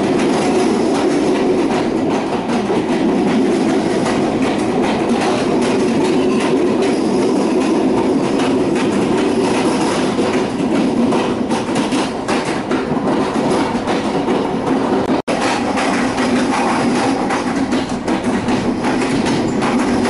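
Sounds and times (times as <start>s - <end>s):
train rumbling on rails: 0.0s - 20.0s
wheels clattering over track: 0.0s - 20.0s.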